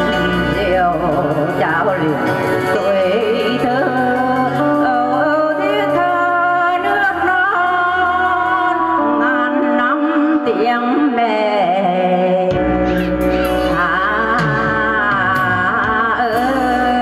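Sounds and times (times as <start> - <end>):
instrumental backing music: 0.0 - 17.0
person singing: 0.0 - 17.0.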